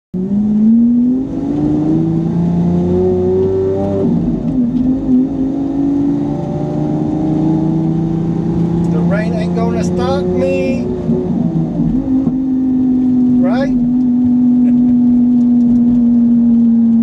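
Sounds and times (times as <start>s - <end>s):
car engine accelerating: 0.2s - 17.0s.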